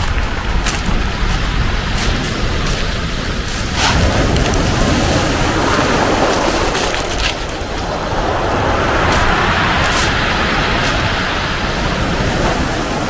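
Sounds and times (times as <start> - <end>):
waves breaking on rocks and pebbles: 0.0 - 13.0.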